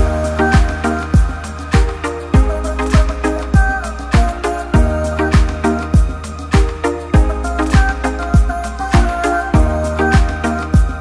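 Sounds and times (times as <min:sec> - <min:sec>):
deep kick drum: 0:00.0 - 0:11.0.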